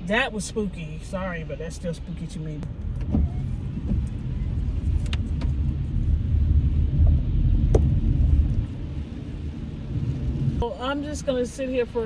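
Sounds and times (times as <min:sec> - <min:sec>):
low rumble inside car: 0:00.0 - 0:12.0.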